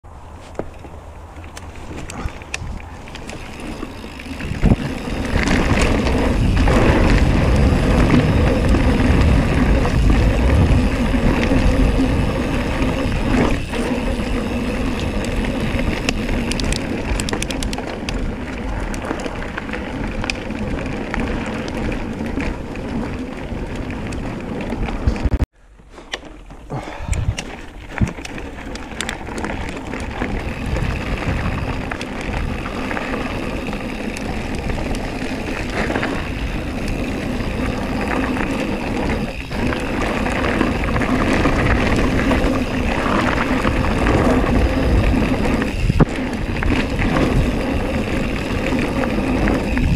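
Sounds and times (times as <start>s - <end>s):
bike tyres rumbling on dirt: 0.0s - 49.9s
bike rolling on gravel: 0.1s - 49.9s
bike clicks and knocks: 0.4s - 49.9s.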